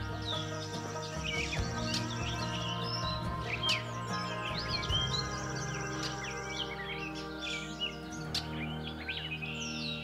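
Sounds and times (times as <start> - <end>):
birds chirping: 0.0 - 10.0
music with long held notes: 0.0 - 10.0.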